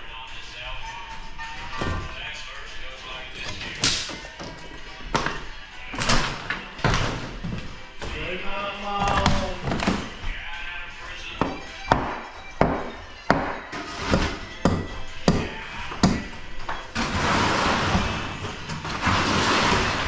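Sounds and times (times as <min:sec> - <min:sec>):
music: 0:00.0 - 0:20.0.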